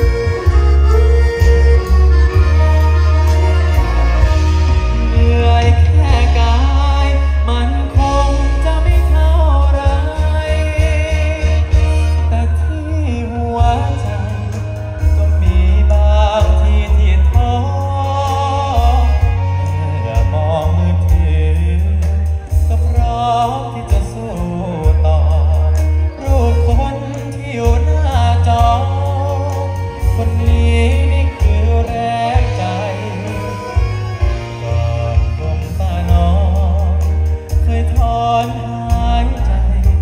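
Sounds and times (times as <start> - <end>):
heavy bass: 0.0 - 40.0
live band music over speakers: 0.0 - 40.0
man singing: 0.0 - 40.0.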